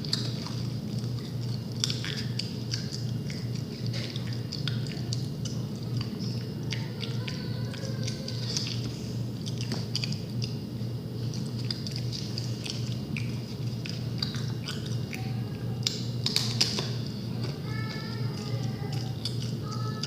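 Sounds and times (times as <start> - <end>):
crunchy clicks and crackles: 0.0 - 20.0
steady low hum: 0.0 - 20.0.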